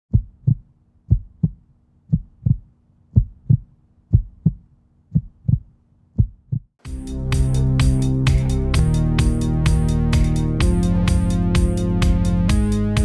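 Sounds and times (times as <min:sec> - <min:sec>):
heartbeat thumps: 0:00.1 - 0:13.0.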